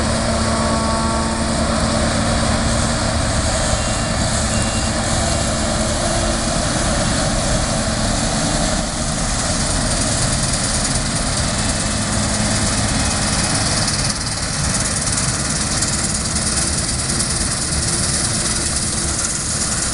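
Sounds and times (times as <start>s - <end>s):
combine harvester running: 0.0s - 19.9s.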